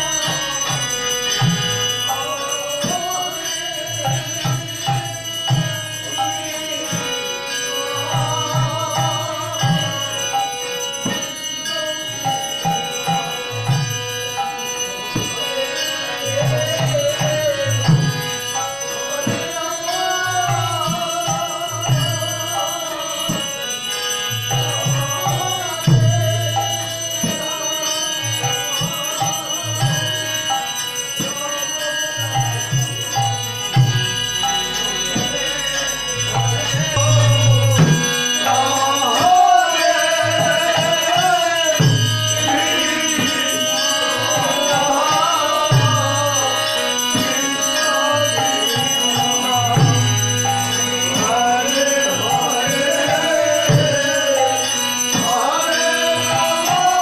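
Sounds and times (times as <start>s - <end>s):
people singing a hymn: 0.0s - 57.0s.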